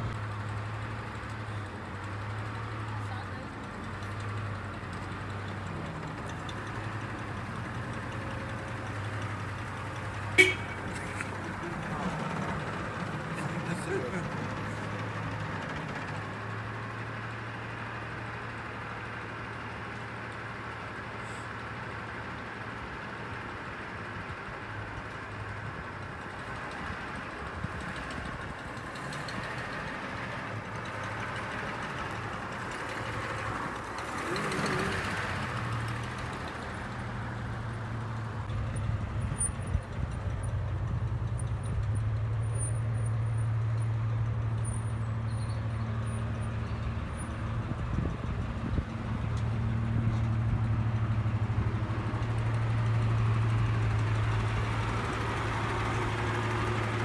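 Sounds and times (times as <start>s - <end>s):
car engine running at low speed: 0.0s - 57.0s.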